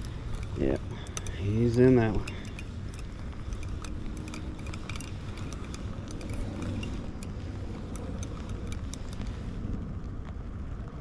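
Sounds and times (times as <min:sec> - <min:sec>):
fishing reel clicking and rattling: 0:00.0 - 0:09.6
steady low rumble: 0:00.0 - 0:11.0.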